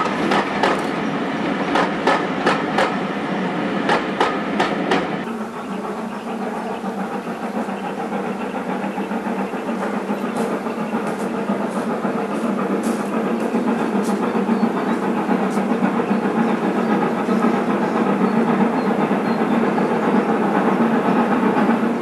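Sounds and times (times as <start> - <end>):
steam train rumble and hiss: 0.0 - 22.0.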